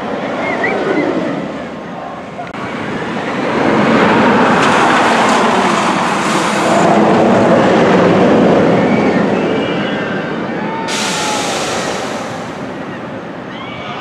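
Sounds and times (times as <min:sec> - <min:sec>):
roller coaster train roaring: 0:00.0 - 0:14.0.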